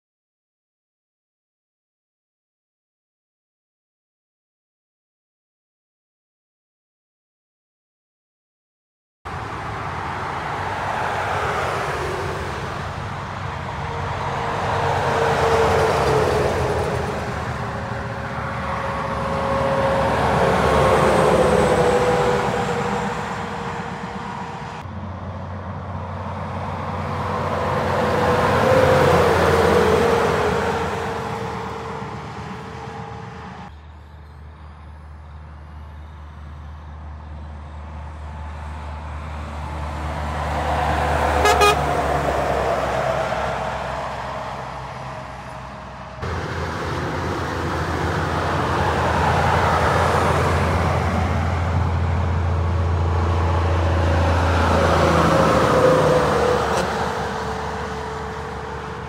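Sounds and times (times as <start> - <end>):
trucks driving past: 9.3 - 59.0.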